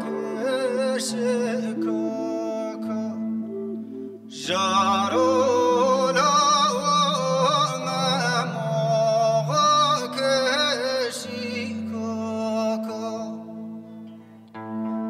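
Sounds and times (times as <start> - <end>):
acoustic guitar accompaniment: 0.0 - 15.0
clarinet folk melody: 0.0 - 15.0.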